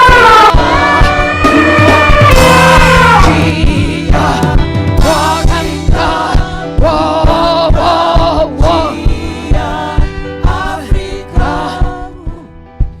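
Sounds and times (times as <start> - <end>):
gospel choir singing: 0.0 - 12.6
driving drum beat: 0.0 - 13.0.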